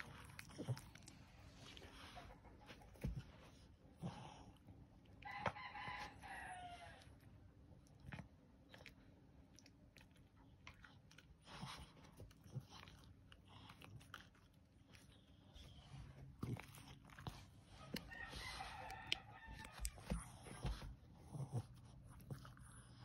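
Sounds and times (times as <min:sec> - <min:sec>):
puppy chewing plush toy: 0:00.0 - 0:23.0.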